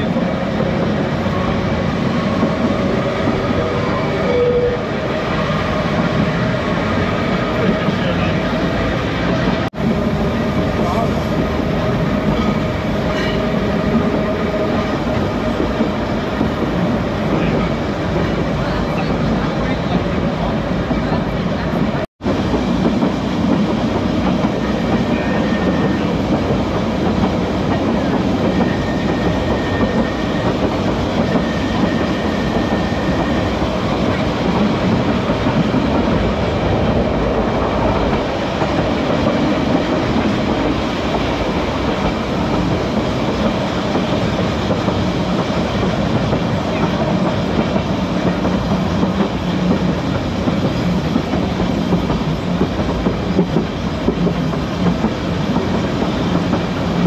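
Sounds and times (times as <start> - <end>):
tram rumbling on track: 0.0 - 57.0.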